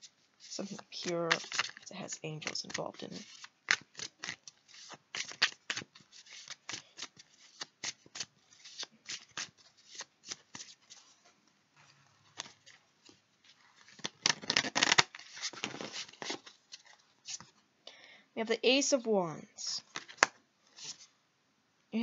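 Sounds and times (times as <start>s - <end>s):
cards being shuffled: 0.4s - 11.2s, 11.8s - 17.6s, 19.8s - 21.1s.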